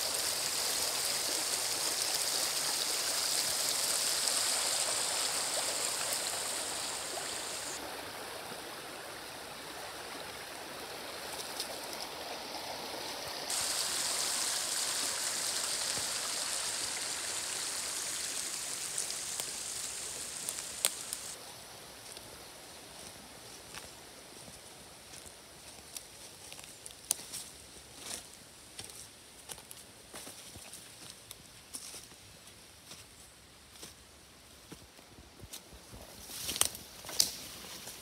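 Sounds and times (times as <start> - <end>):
stream running over stones: 0.0 - 31.2, 35.9 - 38.0.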